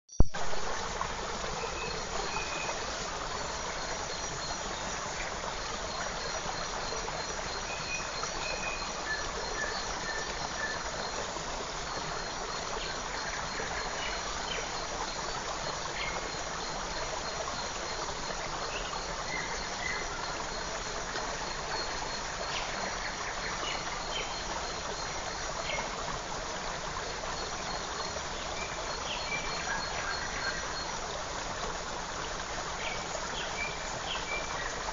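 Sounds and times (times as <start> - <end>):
creek water rushing: 0.4 - 34.9.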